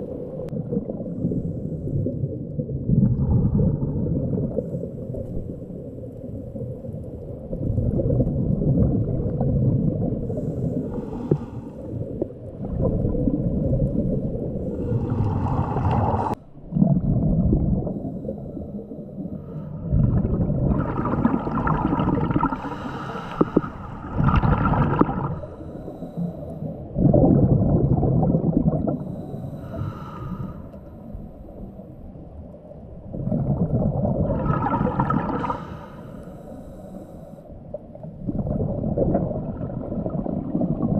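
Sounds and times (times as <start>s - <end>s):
diver breathing underwater bubbling: 0.0s - 31.8s, 33.0s - 40.9s.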